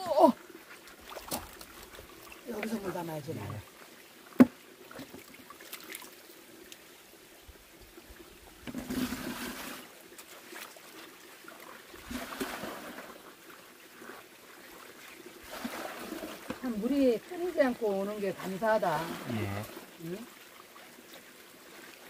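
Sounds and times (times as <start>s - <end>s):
water splashing: 0.0s - 6.9s, 8.6s - 22.0s
stream water trickling: 0.0s - 22.0s.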